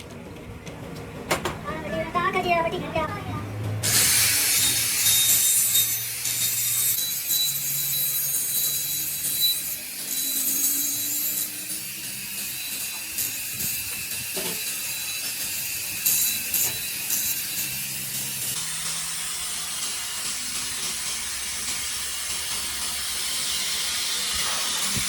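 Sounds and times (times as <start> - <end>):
metal being cut: 3.6 - 25.0.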